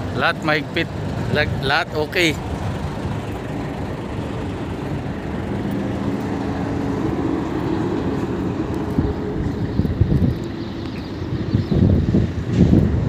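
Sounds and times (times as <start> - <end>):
heavy truck engine rumble: 0.0 - 13.0.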